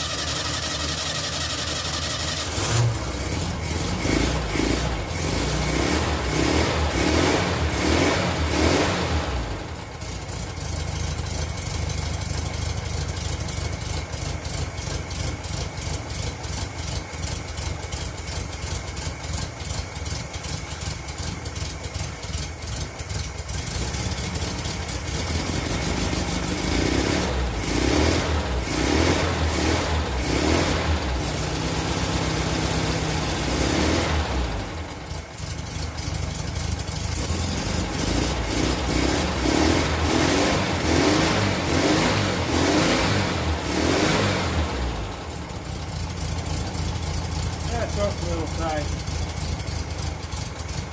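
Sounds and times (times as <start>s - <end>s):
pickup engine running roughly: 0.0s - 50.9s.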